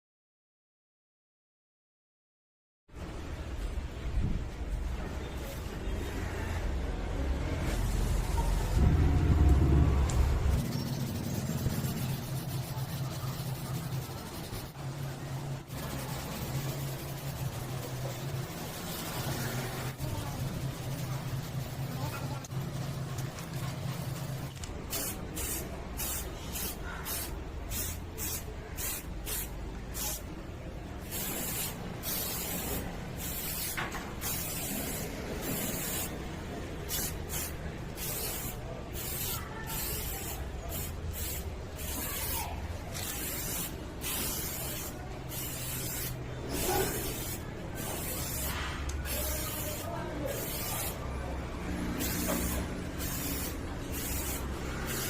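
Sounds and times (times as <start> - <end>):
spray paint hissing: 7.6 - 55.0.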